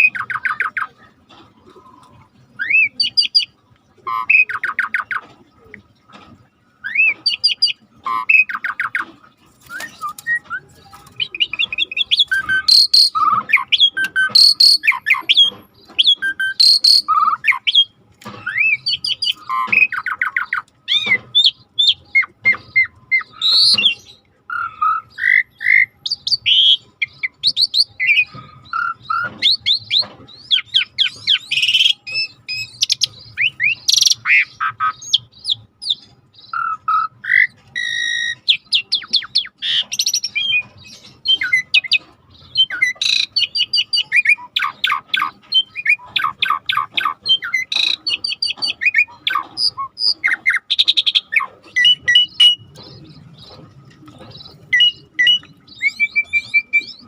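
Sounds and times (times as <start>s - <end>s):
starling singing: 0.0s - 6.0s, 6.7s - 57.0s
bird harsh squawks: 9.6s - 57.0s.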